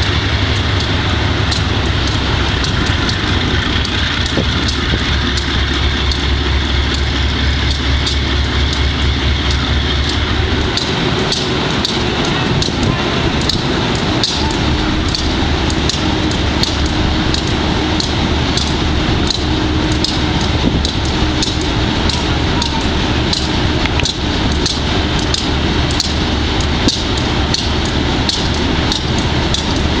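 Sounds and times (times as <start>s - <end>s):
diesel engine droning: 0.0s - 30.0s
faint irregular clicks: 0.5s - 30.0s.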